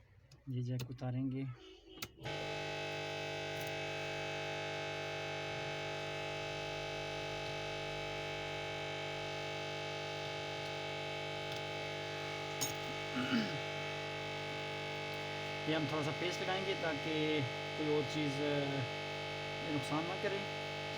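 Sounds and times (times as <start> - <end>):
hot-air station humming and whining: 2.0 - 20.9.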